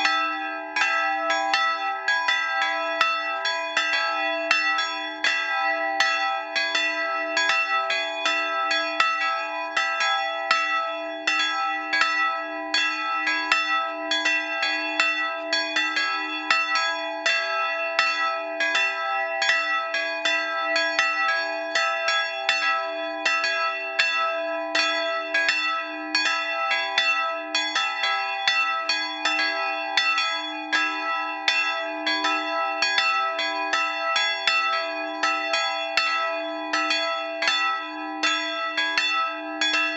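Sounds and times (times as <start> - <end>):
swinging bells ringing in peal: 0.0 - 39.9.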